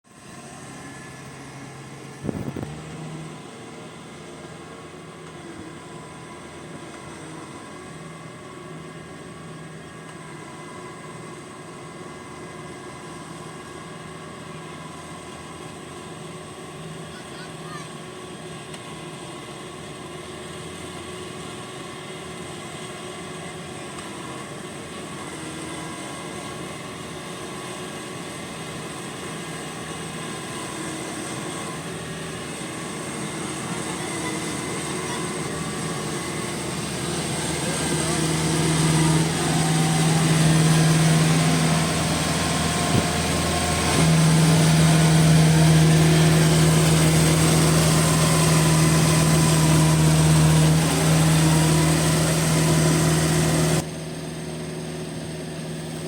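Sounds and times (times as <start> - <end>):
combine harvester engine drone: 0.1 - 56.0.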